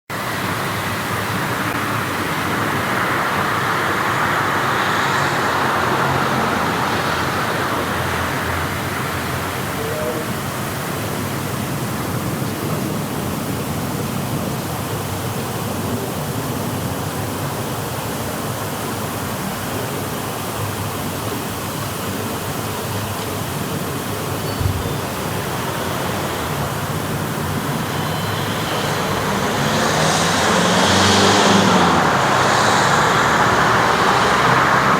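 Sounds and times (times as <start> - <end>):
road traffic noise: 0.1 - 34.9.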